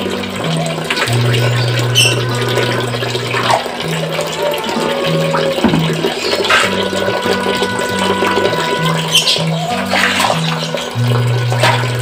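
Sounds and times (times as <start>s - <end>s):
water splashing into a pond: 0.0s - 12.0s.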